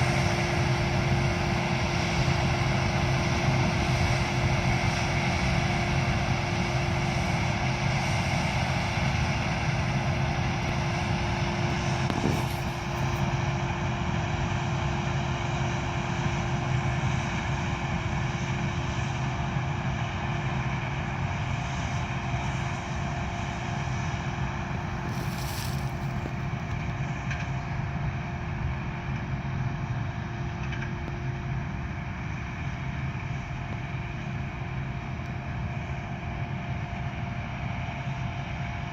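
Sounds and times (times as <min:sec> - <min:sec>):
combine harvester engine drone: 0:00.0 - 0:38.9
constant whine: 0:00.0 - 0:38.9.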